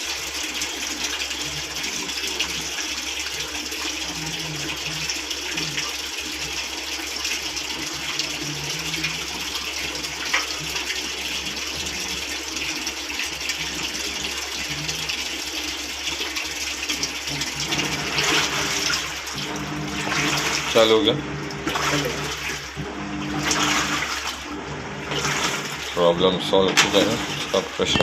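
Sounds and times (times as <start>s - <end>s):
water filling washing machine tub: 0.0s - 28.0s.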